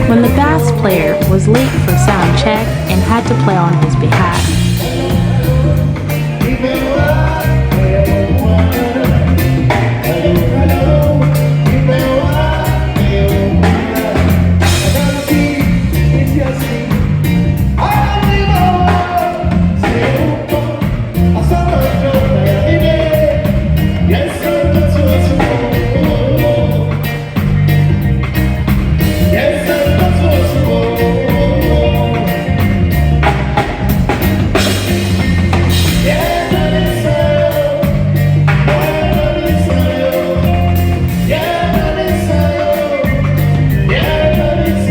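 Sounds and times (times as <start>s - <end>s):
drums: 0.0s - 44.9s
keyboard bass line: 0.0s - 44.9s
lead singer: 0.0s - 44.9s
live band playing: 0.0s - 44.9s.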